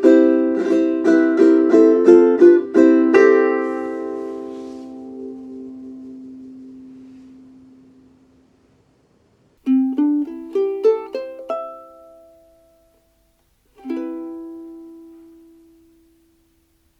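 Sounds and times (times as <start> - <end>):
ukulele chord ringing: 0.0 - 8.2, 9.6 - 16.6
ukulele plucked notes: 0.0 - 8.2, 9.6 - 16.9.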